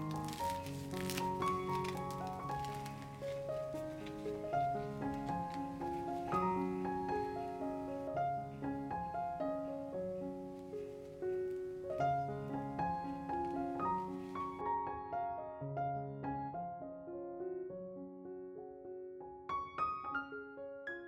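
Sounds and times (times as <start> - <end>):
calm piano music: 0.0 - 21.0.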